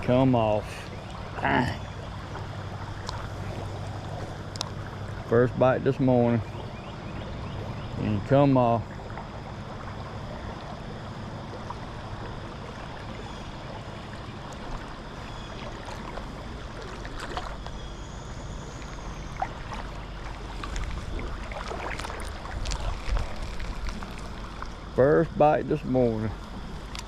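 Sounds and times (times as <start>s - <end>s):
boat motor humming: 0.0s - 27.0s
water noise: 0.0s - 27.0s.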